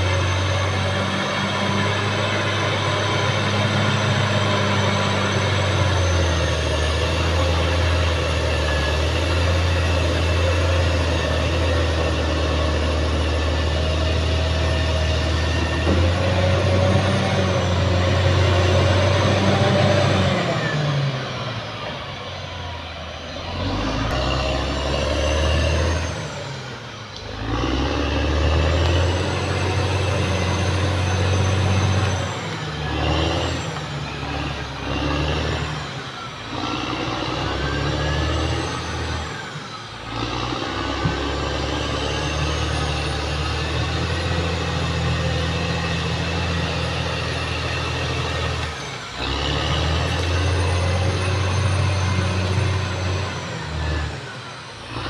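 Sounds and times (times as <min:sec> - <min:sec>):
bulldozer engine under load: 0:00.0 - 0:55.0.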